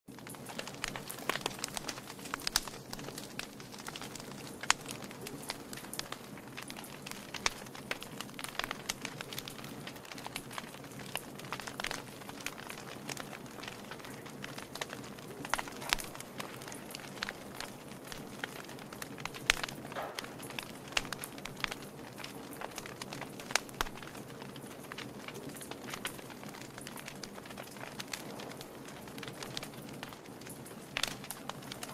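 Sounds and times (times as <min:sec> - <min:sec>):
low rush of flames: 0:00.1 - 0:31.9
wood fire crackling: 0:00.1 - 0:31.9.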